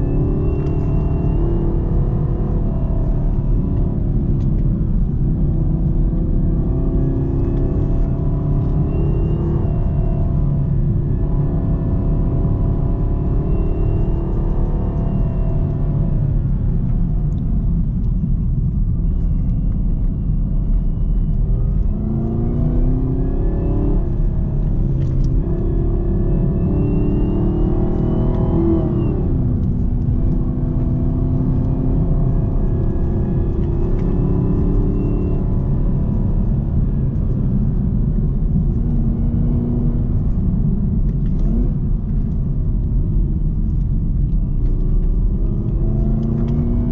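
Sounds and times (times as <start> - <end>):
deep engine rumble revving: 0.0 - 46.9
supercharger whine: 0.0 - 46.9.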